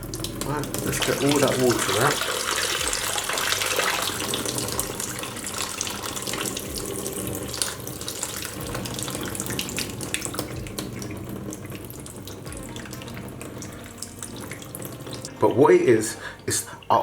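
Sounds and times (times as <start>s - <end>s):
kitchen tap running: 0.0s - 17.0s
water splashing in sink: 0.0s - 17.0s.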